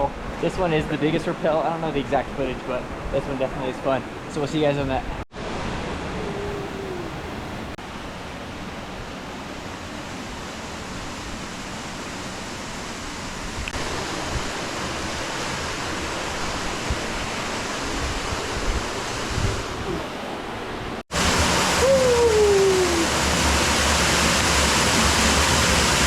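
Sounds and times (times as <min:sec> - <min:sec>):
creek water flowing: 0:00.1 - 0:26.0.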